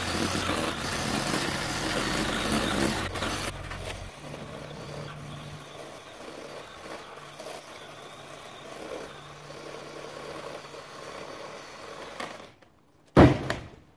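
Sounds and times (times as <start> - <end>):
motor humming: 0.0 - 12.6
outdoor background noise: 0.0 - 13.9.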